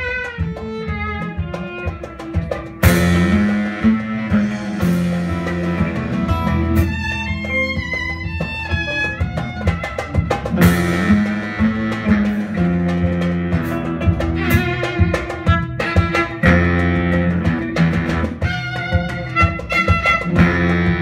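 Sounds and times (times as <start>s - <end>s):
drums: 0.0s - 21.0s
electric bass line: 0.0s - 21.0s
keyboard: 0.0s - 21.0s
plucked oud notes: 0.0s - 21.0s.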